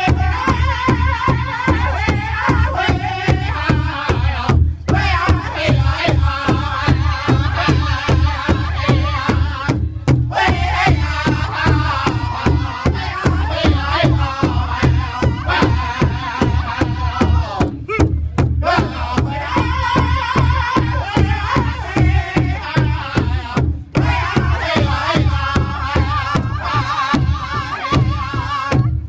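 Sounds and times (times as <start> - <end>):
large drum beating: 0.0 - 29.0
men singing in unison: 0.0 - 29.0.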